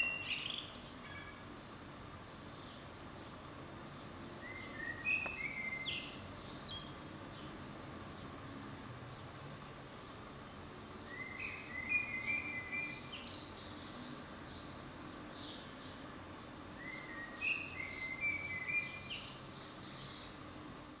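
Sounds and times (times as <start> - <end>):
birds singing and chirping: 0.0 - 21.0
steady background noise: 0.0 - 21.0.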